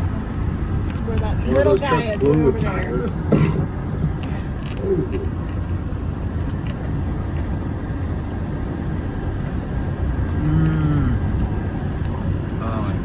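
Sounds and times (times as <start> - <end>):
road vehicle engine rumble: 0.0 - 13.0.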